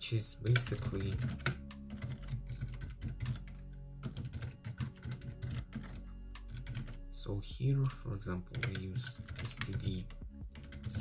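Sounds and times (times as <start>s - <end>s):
typing on computer keyboard: 0.5s - 7.0s, 7.8s - 11.0s.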